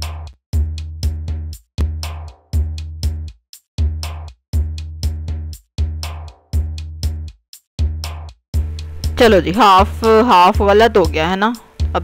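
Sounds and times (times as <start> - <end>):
electronic drum beat music: 0.0 - 12.0.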